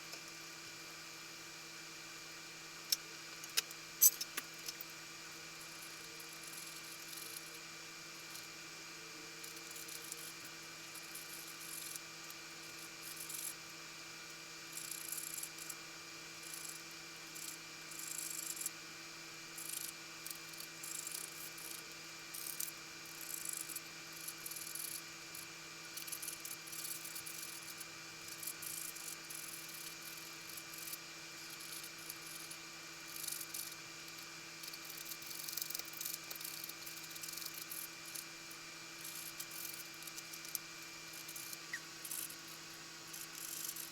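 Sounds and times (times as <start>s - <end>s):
steady electrical hum: 0.0s - 43.9s.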